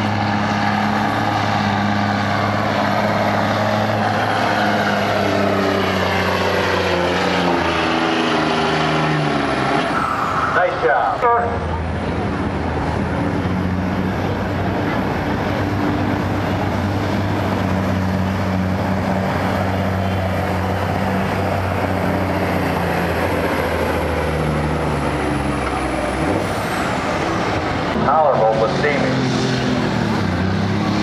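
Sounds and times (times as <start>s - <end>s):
diesel engine under heavy load: 0.0s - 31.0s.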